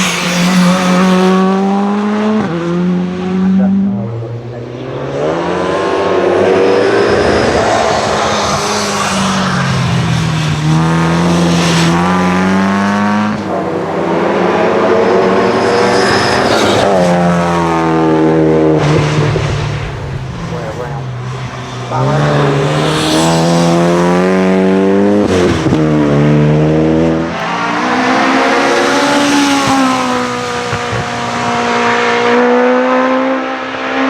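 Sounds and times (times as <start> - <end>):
racing car engine accelerating: 0.0 - 34.0.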